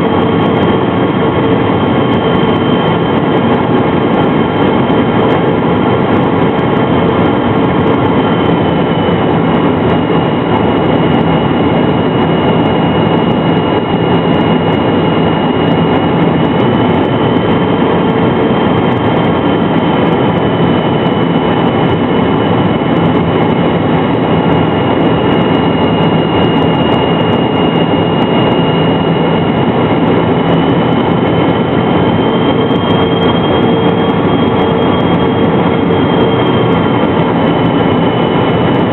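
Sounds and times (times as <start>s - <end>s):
jet engines running with whine: 0.0s - 38.9s.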